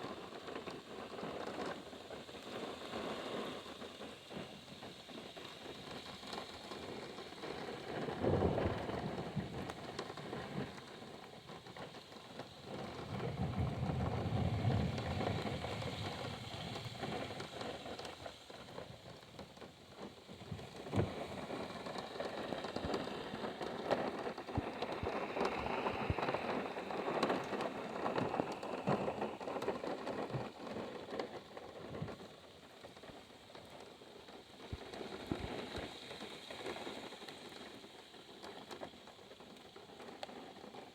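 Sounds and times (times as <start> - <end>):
rain pattering on car roof: 0.0 - 40.9.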